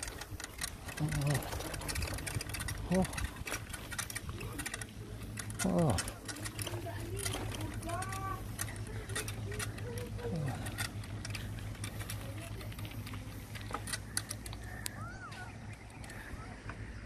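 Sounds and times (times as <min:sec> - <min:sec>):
bike rattling and clicking: 0:00.0 - 0:17.0
low hum: 0:00.0 - 0:17.0.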